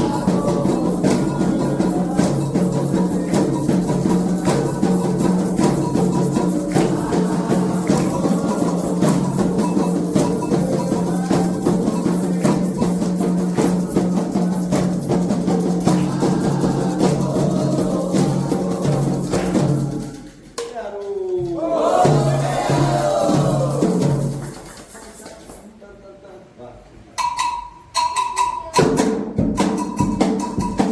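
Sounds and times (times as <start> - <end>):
percussion music with drums: 0.0 - 25.7, 27.1 - 30.9.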